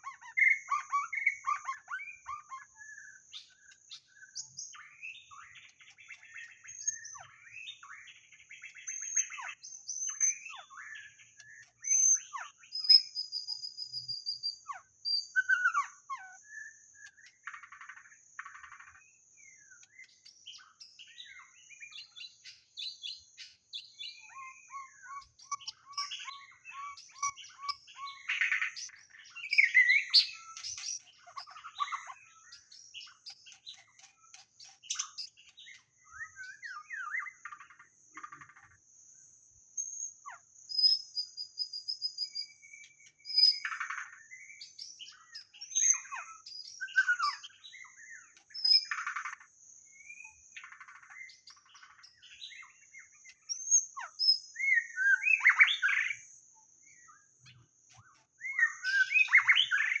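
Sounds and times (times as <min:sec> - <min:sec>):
bird singing whistled phrases: 0:00.0 - 0:17.9, 0:19.4 - 0:37.6, 0:39.8 - 0:49.3, 0:49.9 - 1:00.0.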